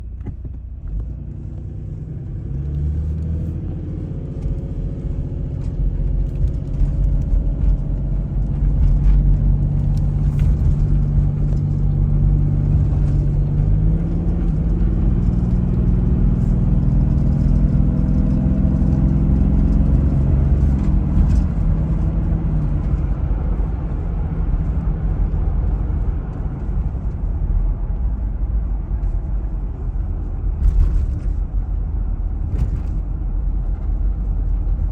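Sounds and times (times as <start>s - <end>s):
diesel engine accelerating: 0.0s - 34.9s.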